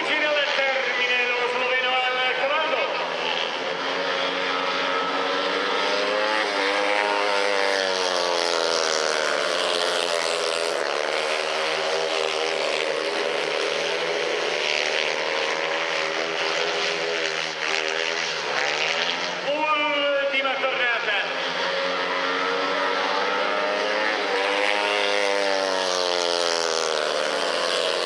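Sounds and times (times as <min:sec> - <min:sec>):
motorcycles racing engines revving: 0:00.0 - 0:28.0.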